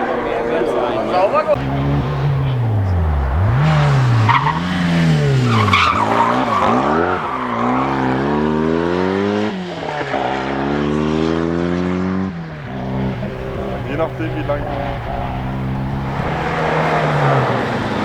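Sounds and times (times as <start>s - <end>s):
rally car engine revving: 0.0s - 18.0s
tyres skidding: 0.0s - 18.0s.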